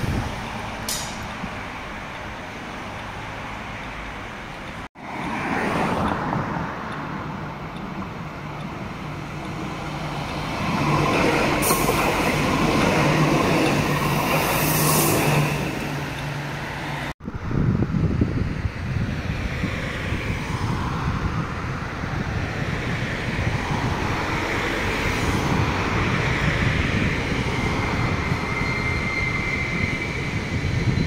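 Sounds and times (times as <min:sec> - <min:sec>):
train wheels rumbling on rails: 0:00.0 - 0:17.1, 0:18.1 - 0:31.0.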